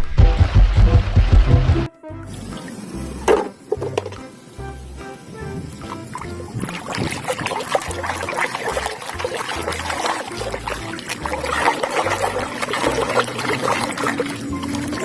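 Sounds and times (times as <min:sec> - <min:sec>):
water trickling and splashing: 0:02.3 - 0:15.0.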